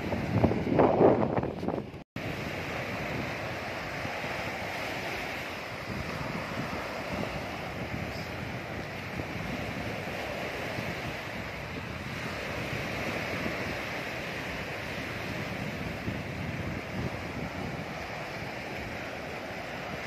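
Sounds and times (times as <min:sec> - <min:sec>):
sea waves washing onto beach: 0:00.0 - 0:20.0
wind buffeting microphone: 0:00.0 - 0:20.0.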